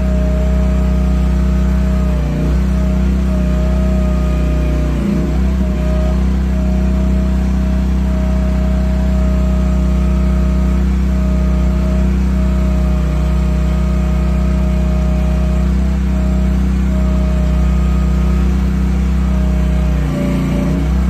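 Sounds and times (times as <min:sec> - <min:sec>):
high whine: 0:00.0 - 0:21.0
small excavator engine running: 0:00.0 - 0:21.0.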